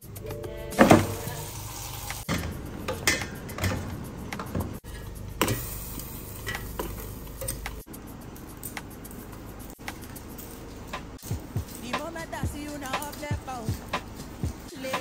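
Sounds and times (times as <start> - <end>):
utensils clinking against pots: 0.1 - 15.0.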